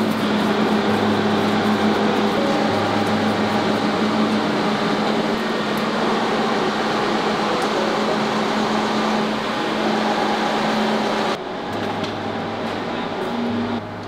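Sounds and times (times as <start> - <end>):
constant low drone: 0.0 - 14.0
machine hum: 0.0 - 14.0
rushing air noise: 0.0 - 14.0.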